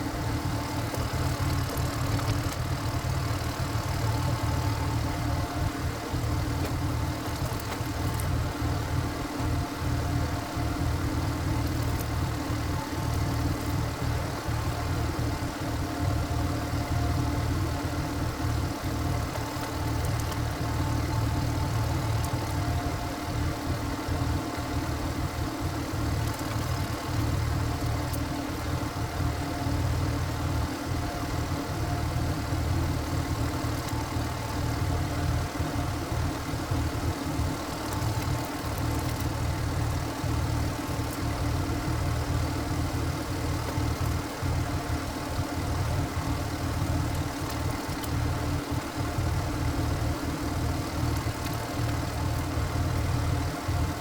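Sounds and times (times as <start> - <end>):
diesel engine running: 0.0 - 54.0
faint steady whine: 0.0 - 54.0.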